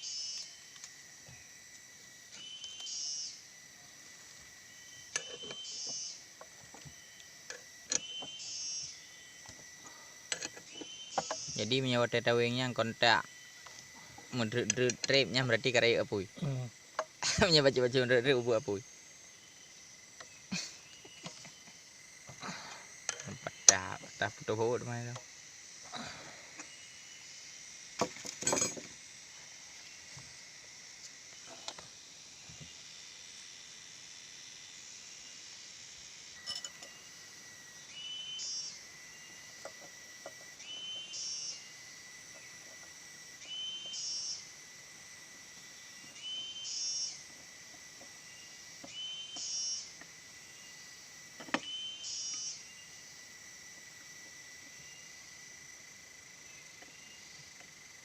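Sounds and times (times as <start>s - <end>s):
insect hum: 0.0s - 58.0s.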